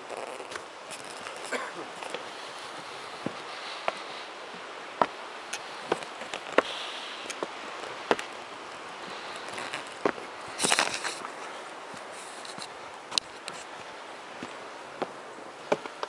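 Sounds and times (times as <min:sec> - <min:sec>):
footsteps on dirt trail: 0:00.0 - 0:16.0
rustle: 0:00.0 - 0:16.0
steady hiss: 0:00.0 - 0:16.0.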